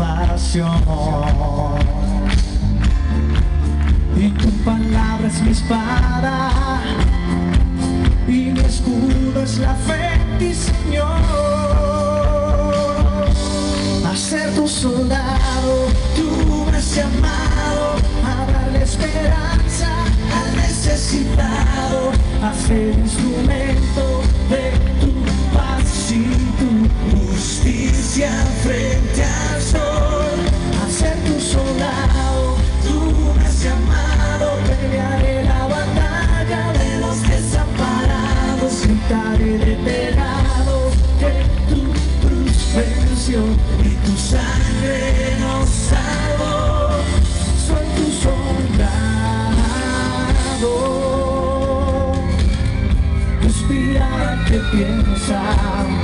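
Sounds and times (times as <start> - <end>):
male vocal group singing: 0.0 - 2.6, 4.1 - 52.5, 53.3 - 56.0
pop band with drum beat: 0.0 - 56.0.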